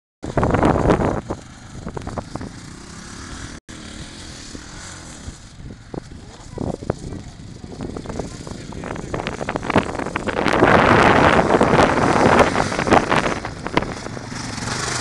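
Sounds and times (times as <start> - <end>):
quad bike engine running: 0.2 - 15.0.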